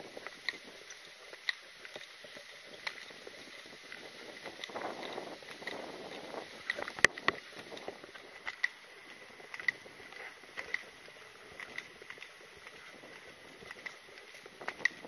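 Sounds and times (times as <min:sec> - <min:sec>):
carried gear clinking while walking: 0:00.2 - 0:15.0.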